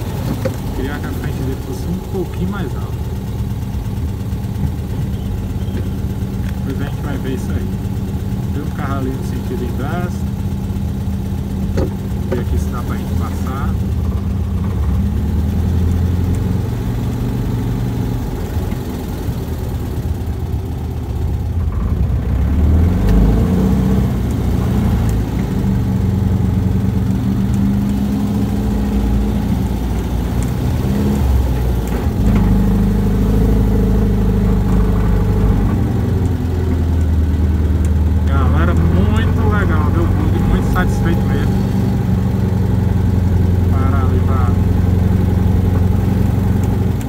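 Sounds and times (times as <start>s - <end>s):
buggy engine running: 0.0s - 47.0s.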